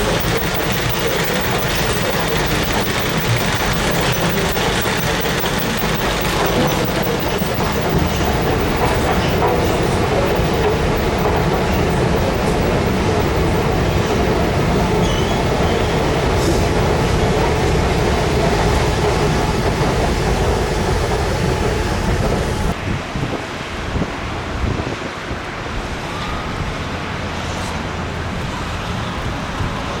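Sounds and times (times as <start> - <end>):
rumble of rail traffic: 0.0 - 30.0.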